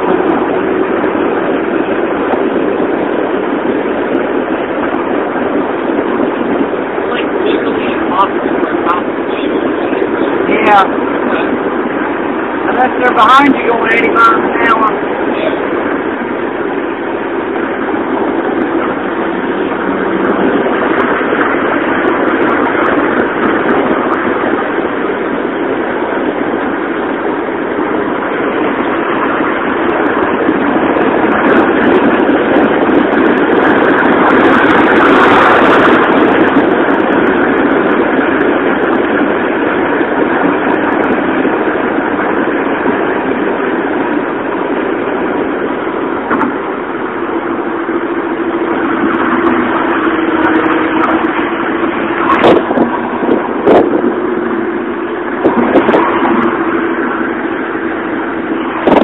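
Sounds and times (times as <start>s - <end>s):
low steady hum: 0.0s - 59.0s
road and engine noise: 0.0s - 59.0s.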